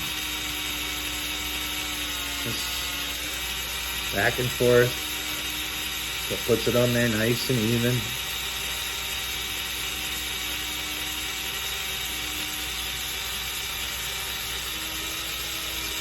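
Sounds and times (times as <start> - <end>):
cordless drill whirring: 0.0 - 16.0.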